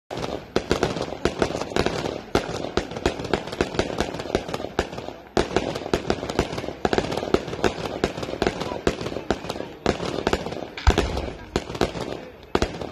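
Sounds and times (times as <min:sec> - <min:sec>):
fireworks bangs and pops: 0:00.1 - 0:12.9
fireworks crackling: 0:00.1 - 0:12.9.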